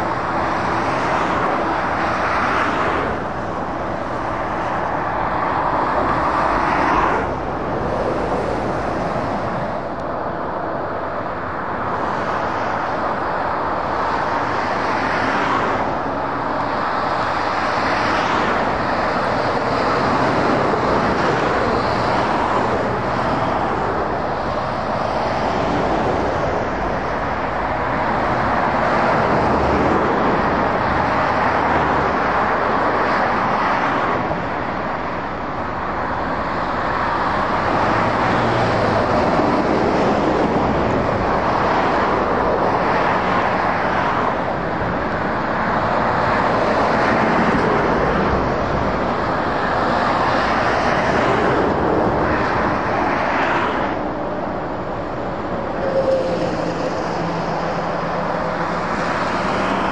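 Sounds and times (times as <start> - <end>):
lorry engine hum: 0.0 - 59.9
motorway traffic passing: 0.0 - 59.9.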